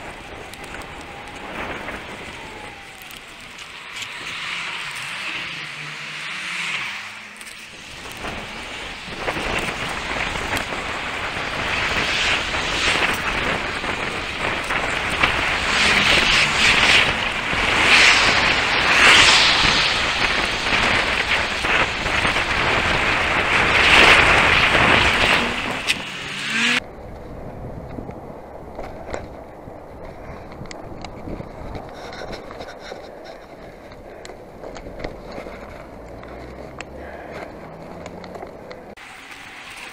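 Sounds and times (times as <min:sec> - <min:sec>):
wind buffeting microphone: 0:00.0 - 0:04.3, 0:07.7 - 0:39.0
road noise: 0:00.0 - 0:39.9.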